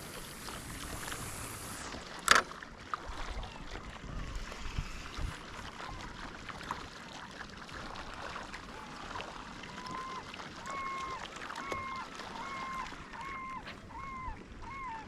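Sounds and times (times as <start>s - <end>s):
moving water: 0.0s - 15.0s
wind: 0.0s - 15.0s.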